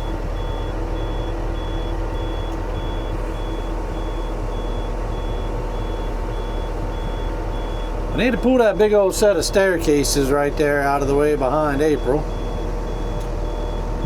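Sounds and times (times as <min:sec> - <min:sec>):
diesel machine running: 0:00.0 - 0:14.0.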